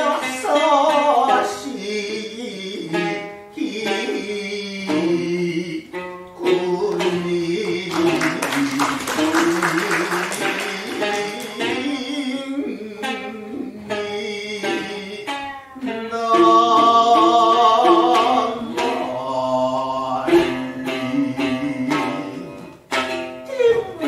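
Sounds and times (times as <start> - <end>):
shamisen plucks: 0.0 - 24.0.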